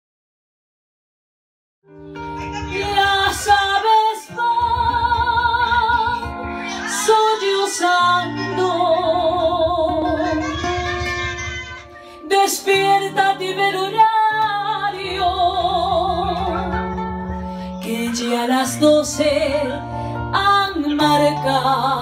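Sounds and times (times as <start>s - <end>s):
guitar and band accompaniment: 1.9s - 22.0s
woman singing with vibrato: 2.7s - 10.8s, 12.0s - 22.0s.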